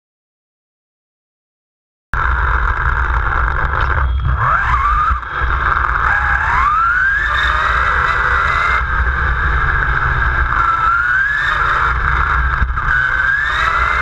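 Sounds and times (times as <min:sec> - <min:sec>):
electric motor whining: 0:02.2 - 0:14.0
steady low rumble: 0:02.2 - 0:14.0.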